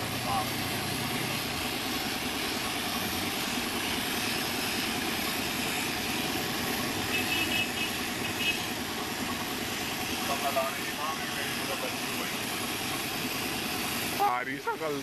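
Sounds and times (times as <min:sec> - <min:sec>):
machine drone: 0:00.0 - 0:15.0
paint spray gun hissing: 0:00.0 - 0:15.0.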